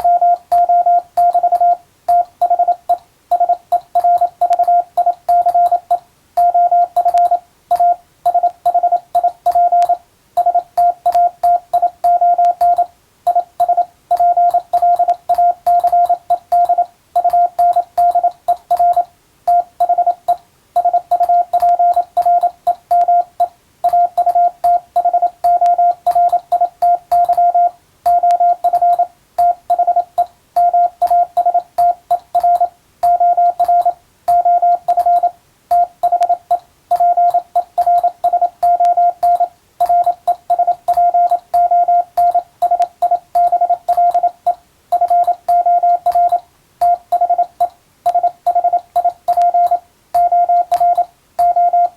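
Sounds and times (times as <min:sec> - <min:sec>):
faint keying clicks: 0:00.0 - 0:51.9
morse code tone: 0:00.0 - 0:51.9.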